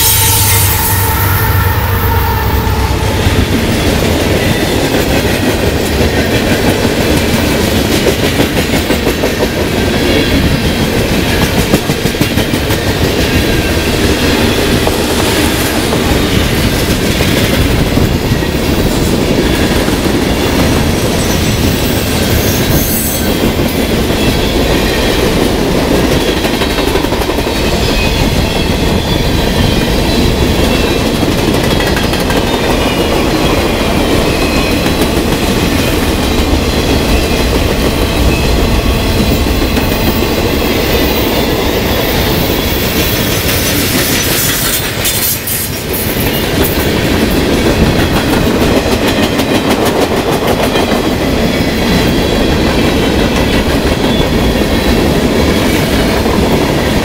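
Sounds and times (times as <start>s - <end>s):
freight train wheels rumbling on rail: 0.0s - 57.0s
clickety-clack over rail joints: 3.5s - 57.0s.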